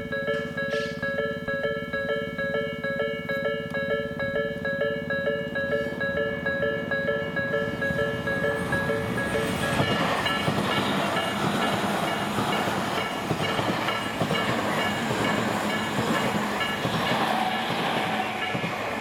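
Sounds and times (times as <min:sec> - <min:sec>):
crossing warning bell ringing: 0:00.0 - 0:19.0
train wheels rumbling on rails: 0:03.2 - 0:19.0.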